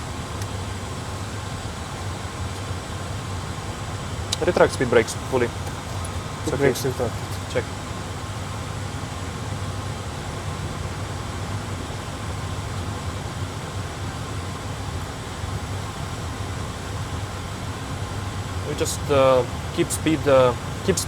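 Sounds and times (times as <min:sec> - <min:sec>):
low even hum: 0:00.0 - 0:21.0
rushing hiss of airflow and fans: 0:00.0 - 0:21.0.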